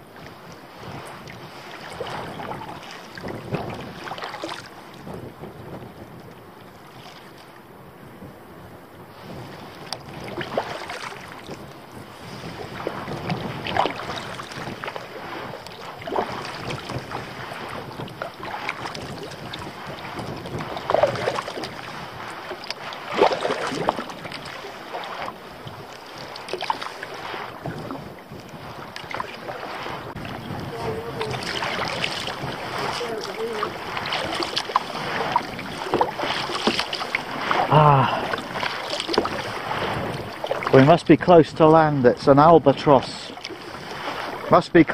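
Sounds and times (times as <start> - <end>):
paddle splashing in water: 0.0 - 44.9
wind noise on microphone: 0.0 - 44.9.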